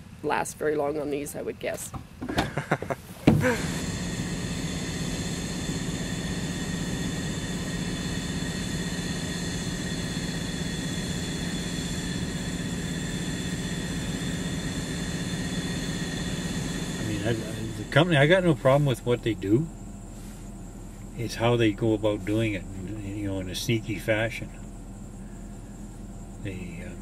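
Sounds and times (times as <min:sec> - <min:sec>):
high machine whine: 0:02.5 - 0:27.0
industrial machinery drone: 0:03.3 - 0:27.0.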